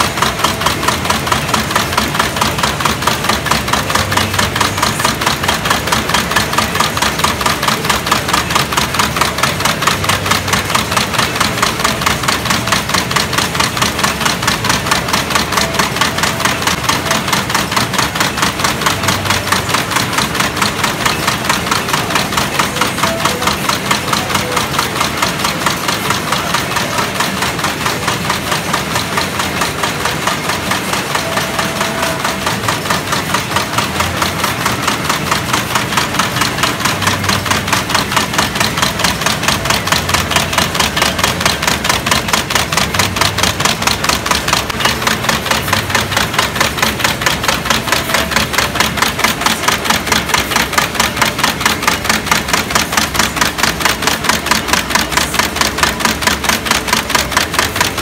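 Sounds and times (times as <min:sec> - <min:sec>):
screw-making machine clattering: 0:00.0 - 0:58.0.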